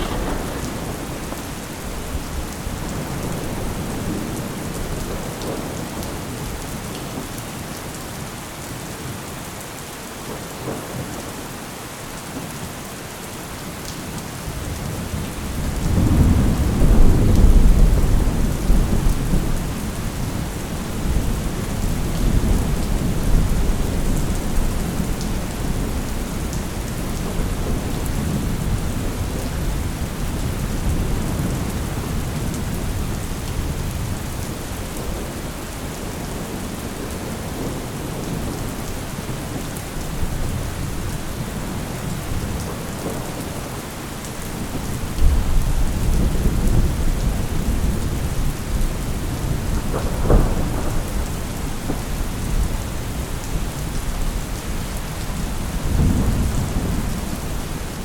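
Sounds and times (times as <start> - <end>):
thunder rumbling: 0.0 - 6.6, 14.6 - 43.8, 44.5 - 58.0
steady rain: 0.0 - 58.0.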